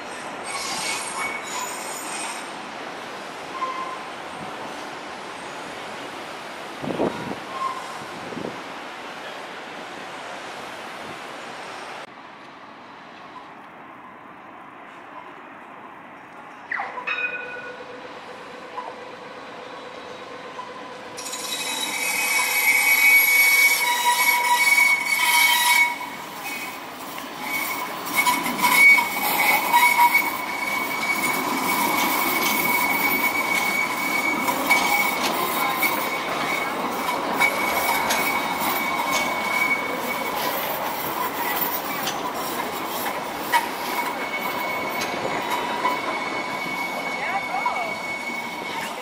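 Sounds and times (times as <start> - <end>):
tram wheels squealing: 0.0 - 6.0, 6.9 - 8.2, 16.5 - 49.0.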